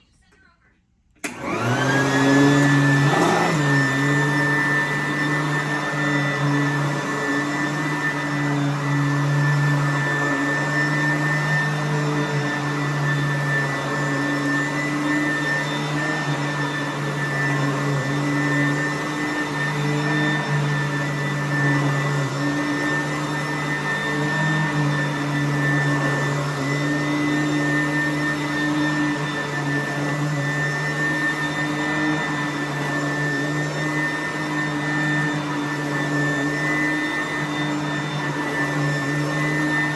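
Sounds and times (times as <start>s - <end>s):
vacuum cleaner running on carpet: 1.2s - 39.9s.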